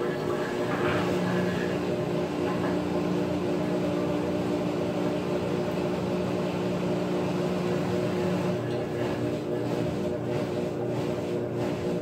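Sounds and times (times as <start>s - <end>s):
washing machine motor hum: 0.0s - 12.0s.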